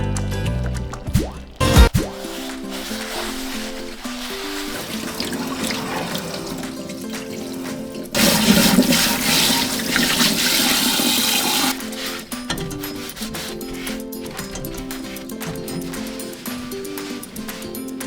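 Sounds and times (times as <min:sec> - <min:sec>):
plucked background music: 0:00.0 - 0:18.0
water running from a tap: 0:02.4 - 0:18.0.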